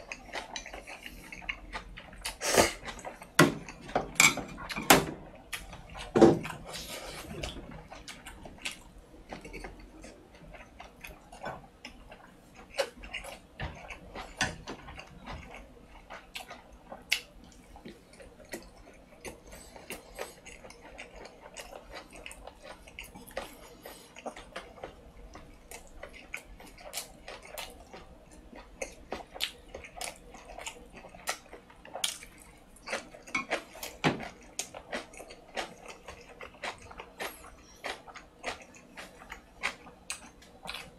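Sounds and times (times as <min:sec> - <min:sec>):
man chewing wet mouth sounds: 0:00.0 - 0:03.8, 0:05.4 - 0:40.9.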